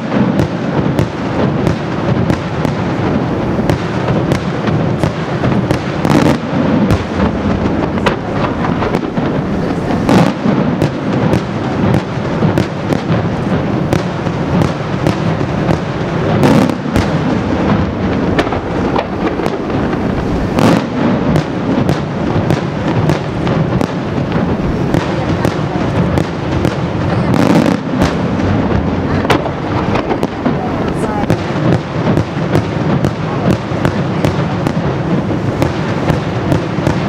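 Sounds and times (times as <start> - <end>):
fireworks bursting: 0.0 - 37.0
heavy fireworks booms: 0.0 - 37.0.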